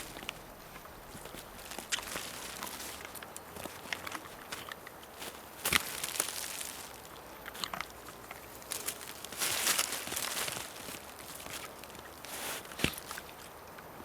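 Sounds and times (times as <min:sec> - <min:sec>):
footsteps crunching on forest floor: 0:00.0 - 0:13.6
twigs snapping: 0:00.0 - 0:13.9.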